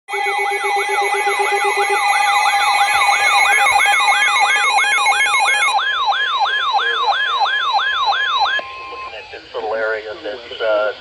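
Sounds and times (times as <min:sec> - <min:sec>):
steady electronic tone: 0:00.0 - 0:09.2
warbling two-tone alarm: 0:00.0 - 0:09.3
siren yelp: 0:00.1 - 0:09.4.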